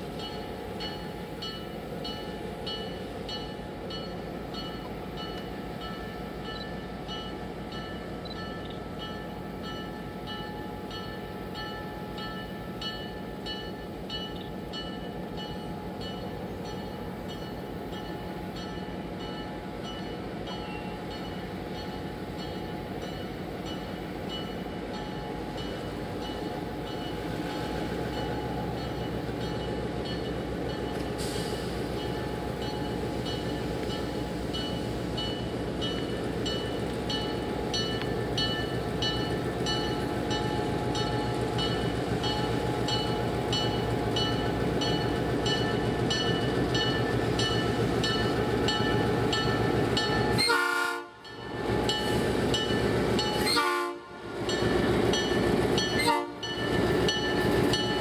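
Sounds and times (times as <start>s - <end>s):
diesel locomotive engine: 0.0s - 58.0s
locomotive bell ringing: 0.2s - 50.5s, 51.2s - 53.5s, 54.4s - 58.0s.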